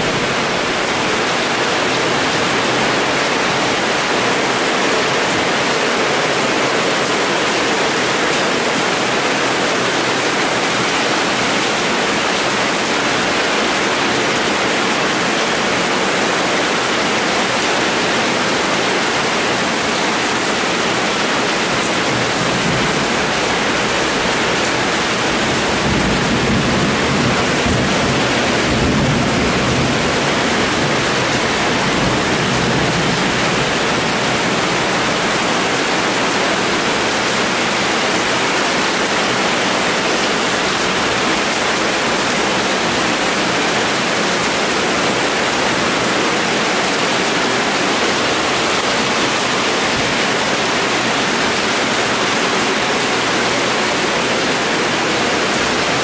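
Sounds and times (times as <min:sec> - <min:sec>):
heavy rain hissing: 0:07.2 - 0:56.0.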